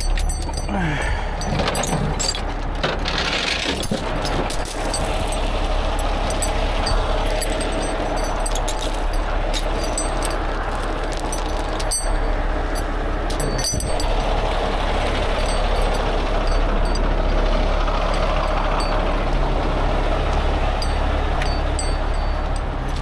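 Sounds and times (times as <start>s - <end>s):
diesel truck engine humming: 0.0s - 23.0s.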